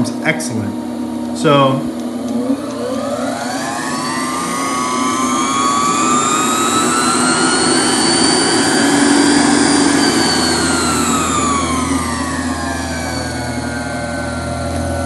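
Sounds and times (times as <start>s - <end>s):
electric motor whine: 0.7s - 15.0s.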